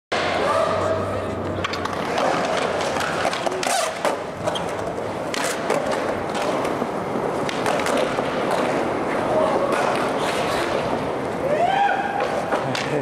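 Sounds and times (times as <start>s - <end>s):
skateboard wheels rolling on concrete: 0.1s - 13.0s.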